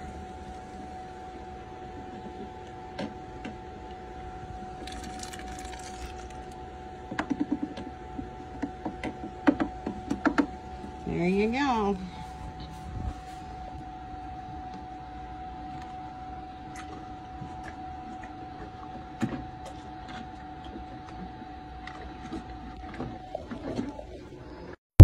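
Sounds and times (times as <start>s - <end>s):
steady mechanical hum: 0.0s - 24.8s.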